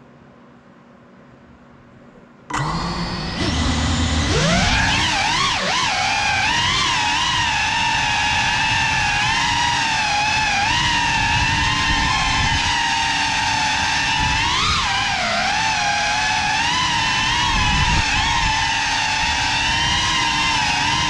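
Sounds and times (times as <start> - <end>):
drone motors whining: 2.5 - 21.0.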